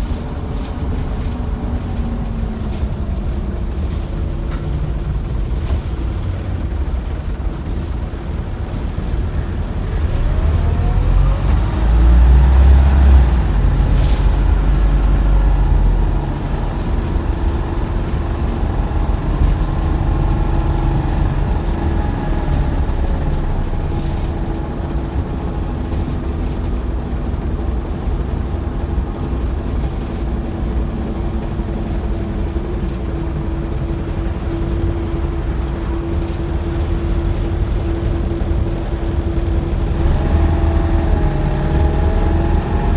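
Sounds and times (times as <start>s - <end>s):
bus engine whining: 0.0s - 42.9s.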